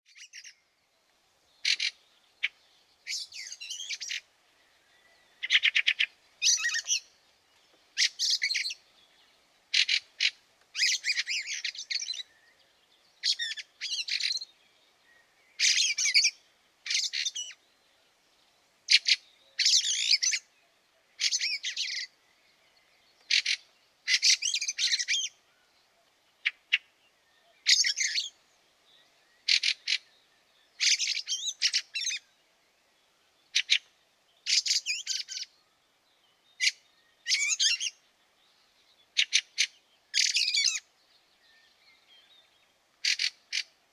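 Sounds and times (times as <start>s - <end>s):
birds calling and singing: 1.5s - 43.8s.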